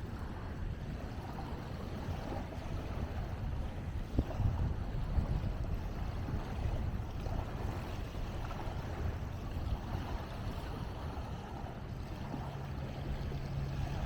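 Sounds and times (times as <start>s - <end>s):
waves splashing on shore: 0.0s - 14.0s
wind on microphone: 0.0s - 14.0s.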